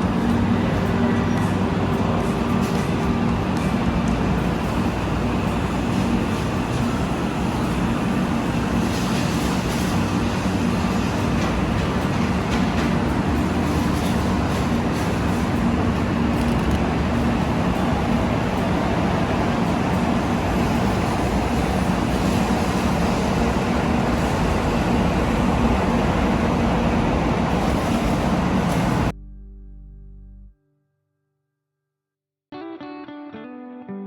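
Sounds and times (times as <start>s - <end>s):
train rushing with low hum: 0.0s - 29.2s.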